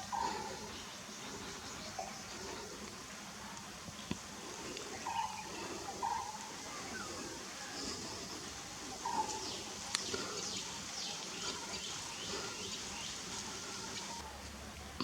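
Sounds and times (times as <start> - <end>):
birds chirping in chorus: 0.0 - 3.0, 3.9 - 14.2.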